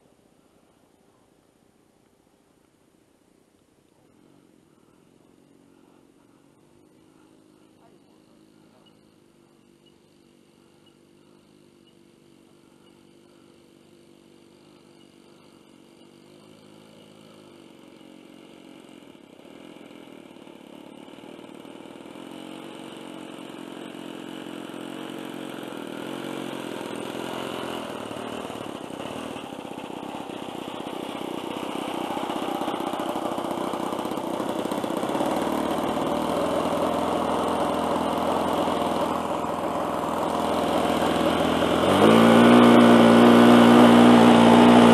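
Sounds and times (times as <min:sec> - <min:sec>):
model plane engine running: 0:04.1 - 0:44.9.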